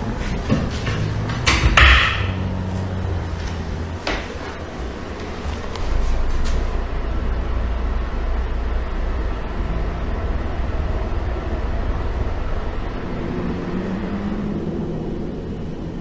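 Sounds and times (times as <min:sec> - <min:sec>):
low hum: 0:00.0 - 0:16.0
low rumbling noise: 0:00.0 - 0:16.0.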